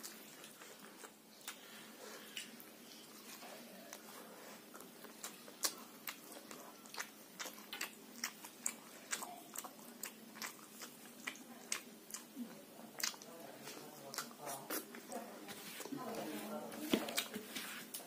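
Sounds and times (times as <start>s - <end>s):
person chewing rice: 0.0s - 16.4s.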